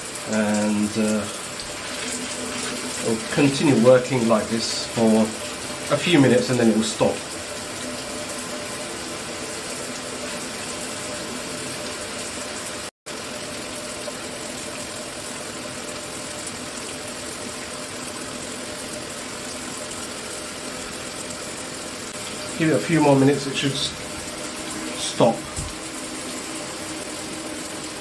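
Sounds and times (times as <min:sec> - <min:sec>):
electric shower water spraying: 0:00.0 - 0:28.0.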